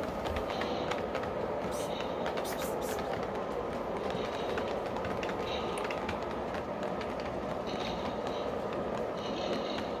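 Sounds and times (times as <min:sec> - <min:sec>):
wheels clicking over rail joints: 0:00.0 - 0:10.0.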